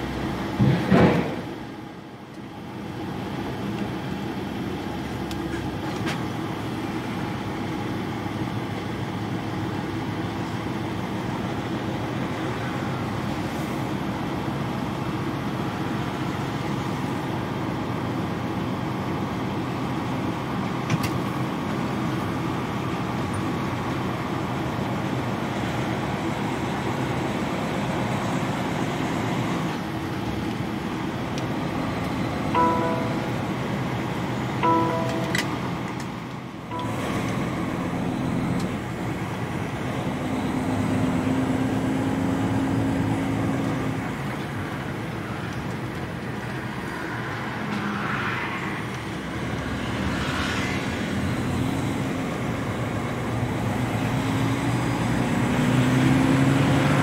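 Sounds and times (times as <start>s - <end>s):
truck diesel engine running: 0.0s - 46.9s
tyre and road noise: 0.0s - 57.0s.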